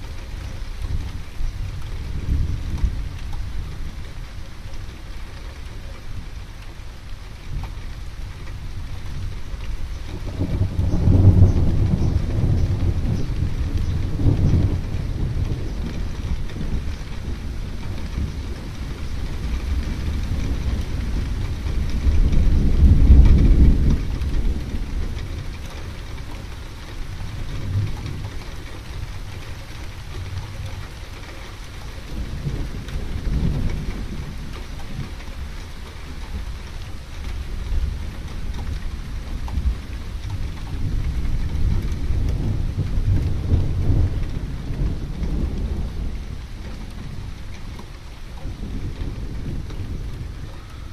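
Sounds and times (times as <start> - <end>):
steady rain falling: 0.0 - 50.9
rolling thunder: 7.2 - 50.9.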